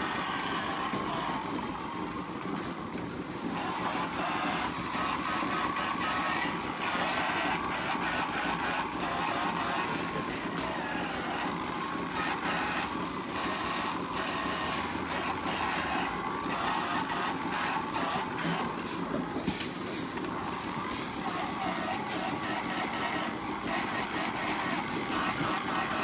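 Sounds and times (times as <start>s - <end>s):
brush motor whirring: 0.0s - 2.6s, 3.4s - 26.0s
milking machine noise: 0.0s - 26.0s.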